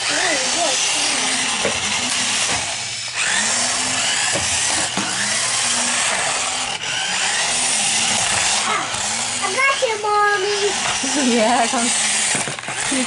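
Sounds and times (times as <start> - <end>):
toy car electric motors whining: 0.0 - 13.0.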